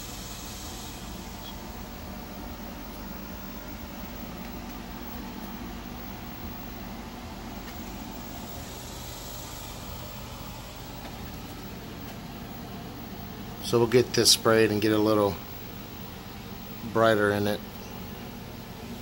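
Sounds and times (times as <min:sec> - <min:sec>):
machine hum: 0:00.0 - 0:19.0
steady hiss: 0:00.0 - 0:19.0.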